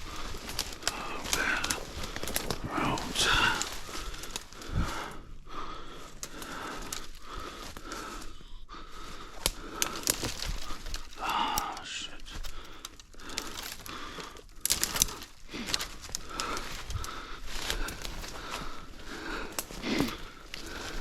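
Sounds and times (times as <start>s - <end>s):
dry leaves rustling and crunching: 0.0s - 5.2s, 9.3s - 21.0s
heavy breathing: 0.0s - 21.0s.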